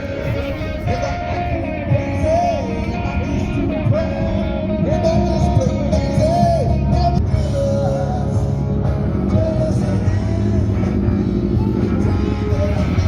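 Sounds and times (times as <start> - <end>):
electric guitar: 0.0 - 13.0
low-end backing: 0.0 - 13.0
person singing: 0.0 - 13.0.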